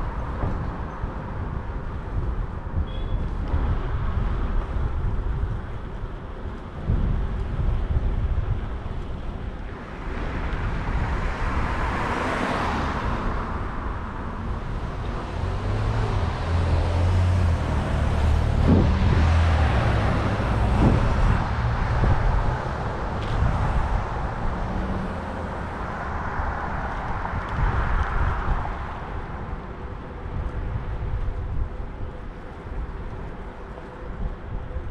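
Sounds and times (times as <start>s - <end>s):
vehicles passing: 0.0s - 34.9s.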